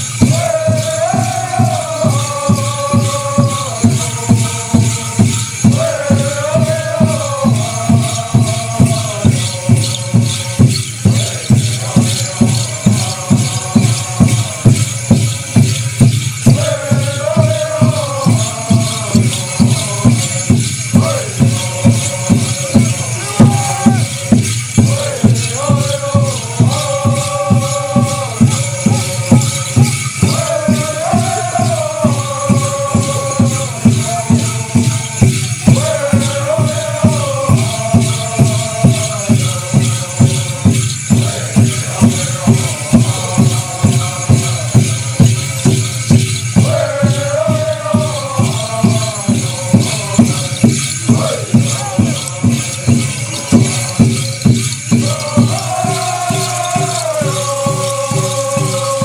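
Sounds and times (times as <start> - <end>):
chorus chanting: 0.0 - 59.0
hand drums beating: 0.0 - 59.0
rattles shaking: 0.0 - 59.0.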